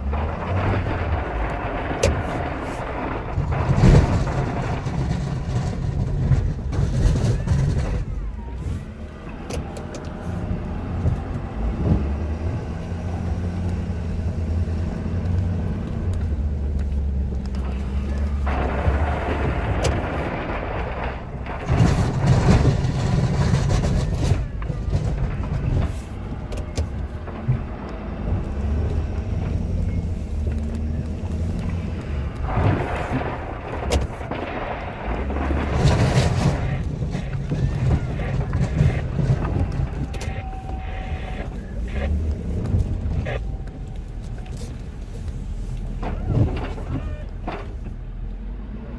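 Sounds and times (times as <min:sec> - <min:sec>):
diesel truck engine running: 0:00.0 - 0:48.9
rushing noise of plowed snow: 0:00.0 - 0:48.9.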